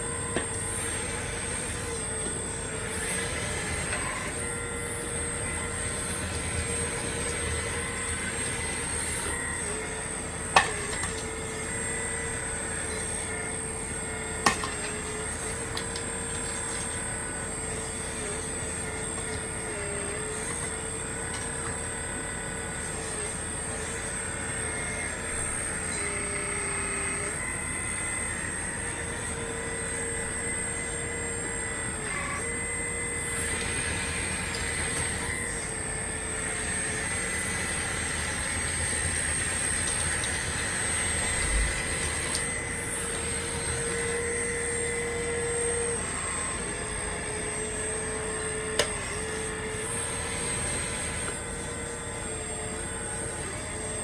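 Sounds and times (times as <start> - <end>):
hydraulic pump whining: 0.0 - 54.0.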